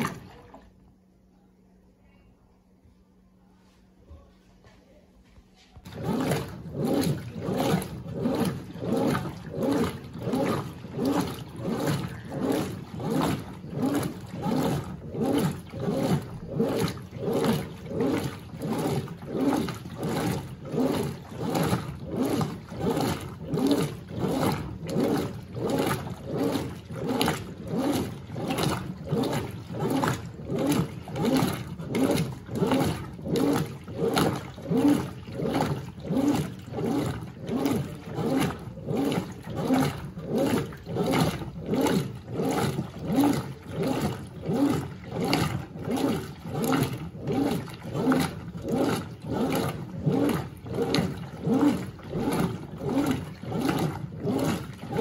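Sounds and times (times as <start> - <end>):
water sloshing: 0.0 - 1.0, 5.7 - 55.0
washing machine agitating clothes: 0.0 - 1.2, 5.4 - 55.0
washing machine motor running: 0.0 - 2.0, 2.7 - 55.0.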